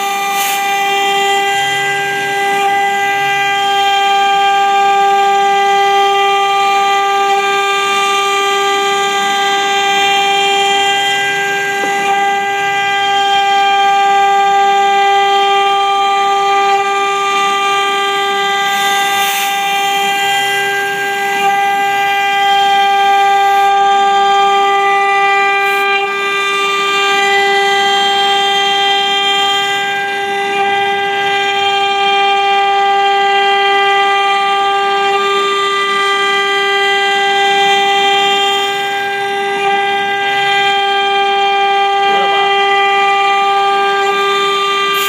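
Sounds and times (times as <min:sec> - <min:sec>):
router spindle high whine: 0:00.0 - 0:45.0.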